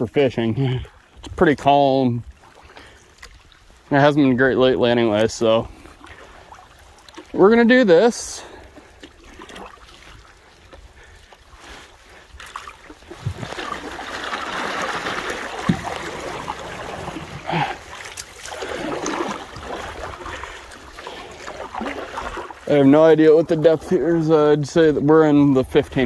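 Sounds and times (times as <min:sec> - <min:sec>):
paddle swishing through water: 0:00.0 - 0:26.0.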